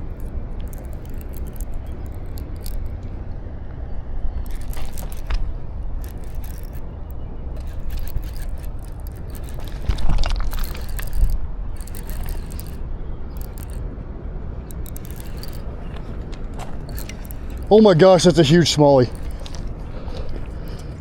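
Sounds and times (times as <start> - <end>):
scraping and clicking noises: 0.0 - 3.1, 4.3 - 13.8, 14.6 - 21.0.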